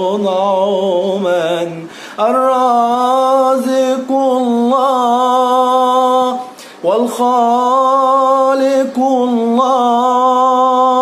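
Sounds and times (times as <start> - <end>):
man singing a religious hymn: 0.0 - 11.0.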